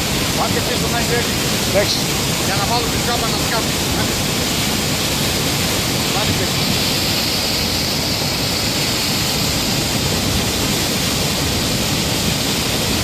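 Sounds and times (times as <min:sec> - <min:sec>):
rushing flowing water: 0:00.0 - 0:13.0.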